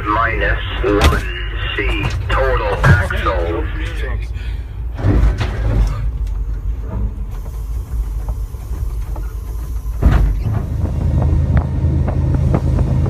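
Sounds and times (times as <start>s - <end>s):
locomotive rumbling: 0.0s - 13.0s.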